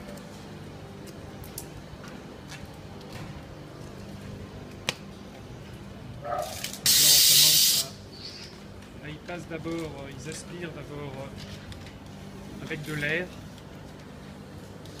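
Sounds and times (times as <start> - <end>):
factory hum: 0.0 - 15.0.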